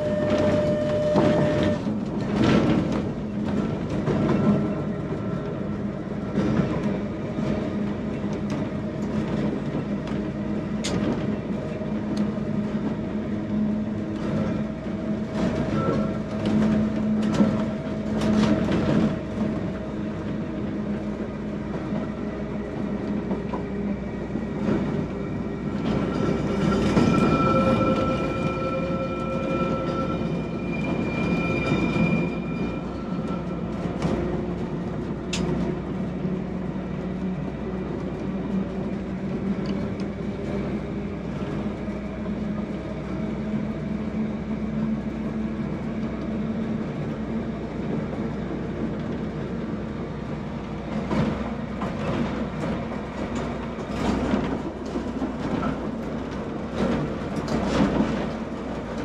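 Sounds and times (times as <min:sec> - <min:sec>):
tram motor and gear whine: 0:00.0 - 0:59.0.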